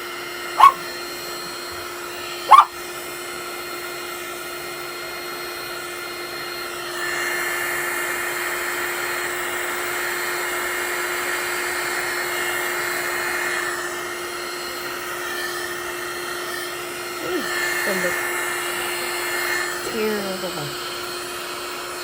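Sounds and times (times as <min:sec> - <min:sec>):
hot-air blower running: 0:00.0 - 0:22.0.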